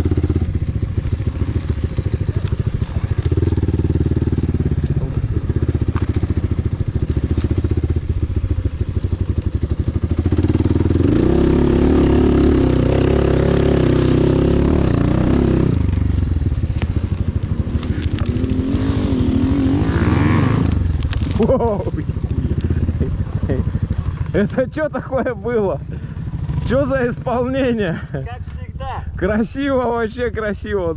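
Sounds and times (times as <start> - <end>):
motorcycle engine revving: 0.0 - 28.6.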